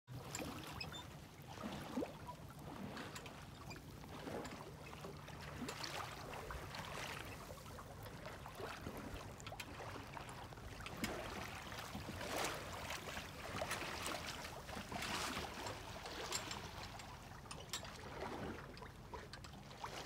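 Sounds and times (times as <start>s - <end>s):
water splashing along a hull: 0.1s - 20.0s.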